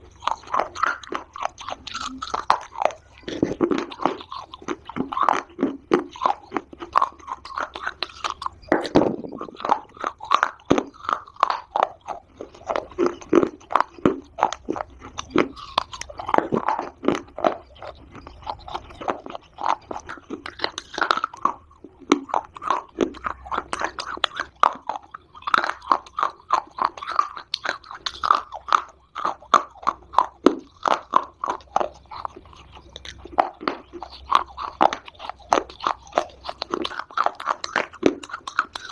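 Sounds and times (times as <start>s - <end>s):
chewing dry clay crunches: 0.0s - 38.9s.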